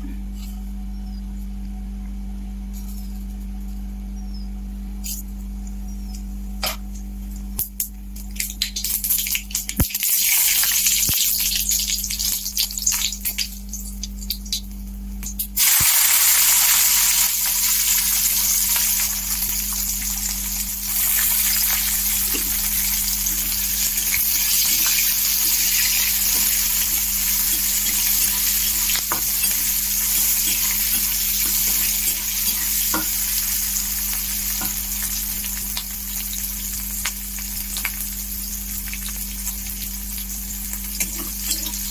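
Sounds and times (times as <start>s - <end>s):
hot oil crackling: 8.2s - 41.9s
vegetables frying sizzle: 8.2s - 41.9s.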